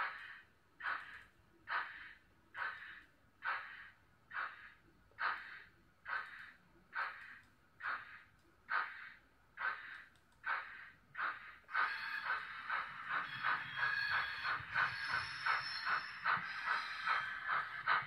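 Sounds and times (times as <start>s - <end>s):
simulated steam locomotive chuffs: 0.0s - 18.0s.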